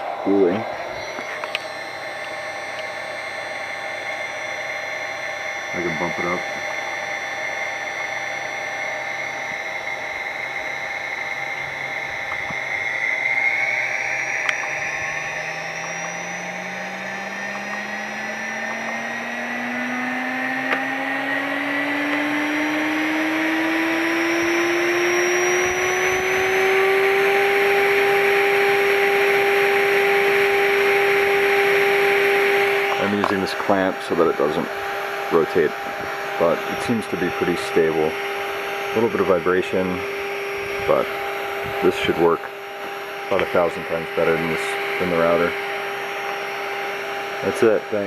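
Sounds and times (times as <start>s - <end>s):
spindle motor whine rising: 0.0s - 48.0s.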